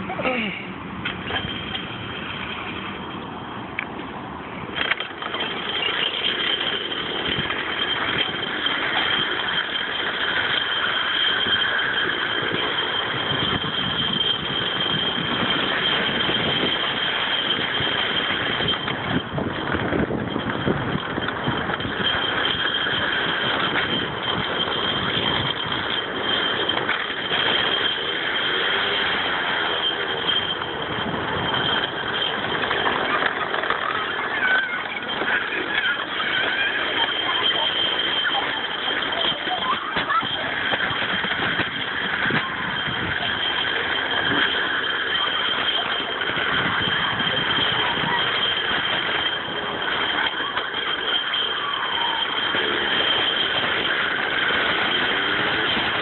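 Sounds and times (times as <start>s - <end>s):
metal rollers rattling: 0.0s - 3.4s, 4.6s - 56.0s
high whine: 0.0s - 56.0s.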